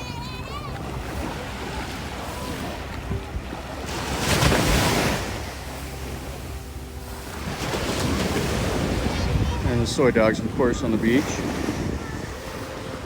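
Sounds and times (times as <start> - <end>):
small waves breaking on sand: 0.0 - 13.0
wind rumble on microphone: 0.6 - 13.0.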